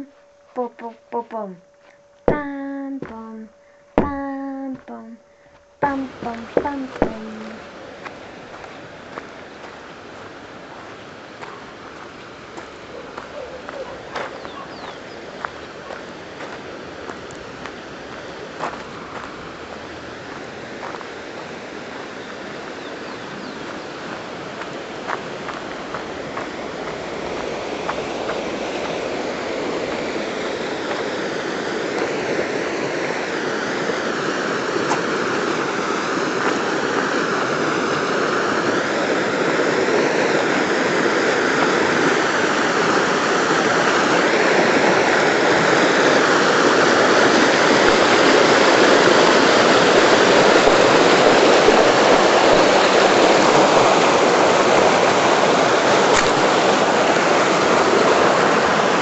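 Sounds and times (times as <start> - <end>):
stream water rushing: 6.9 - 59.0.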